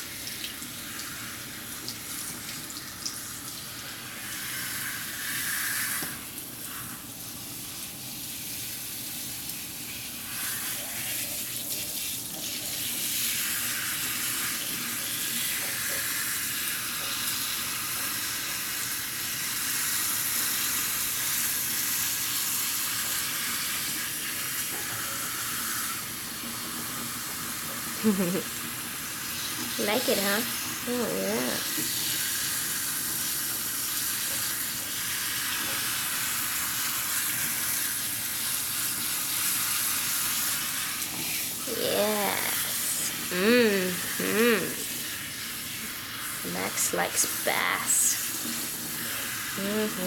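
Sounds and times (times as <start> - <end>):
water spraying from faucet: 0.0 - 50.0.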